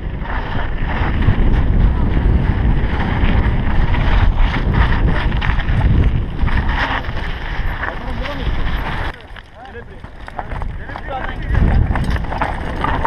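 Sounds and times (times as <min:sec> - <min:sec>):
bike tyre noise: 0:00.0 - 0:13.0
wind buffeting camera: 0:00.0 - 0:13.0.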